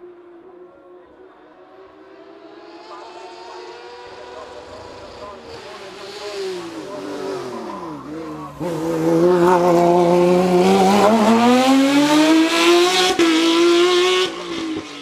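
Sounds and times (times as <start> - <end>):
race car engine accelerating: 1.5 - 15.0.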